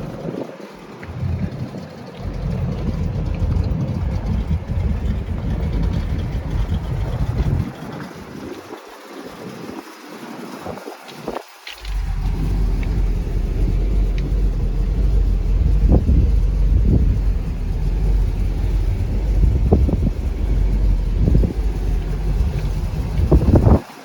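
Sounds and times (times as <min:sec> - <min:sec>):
truck engine rumbling: 0:00.0 - 0:08.8, 0:11.7 - 0:24.0.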